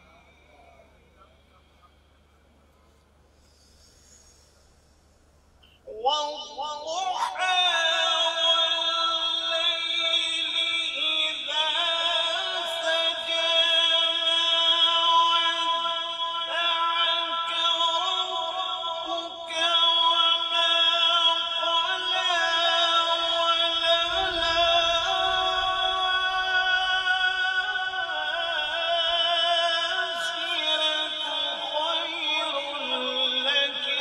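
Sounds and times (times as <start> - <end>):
man reciting in melodic chant: 0.0 - 3.0, 5.6 - 34.0.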